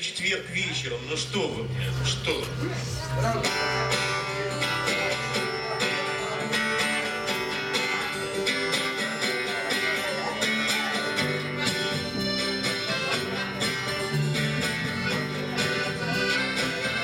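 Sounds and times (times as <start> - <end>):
instrumental music with strummed guitar: 0.3 - 17.0.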